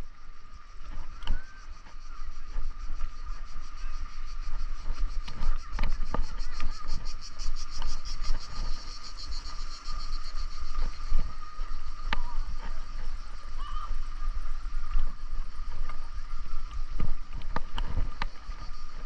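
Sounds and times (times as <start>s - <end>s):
cicadas buzzing: 0.0s - 19.0s
wind rumbling on microphone: 0.0s - 19.0s.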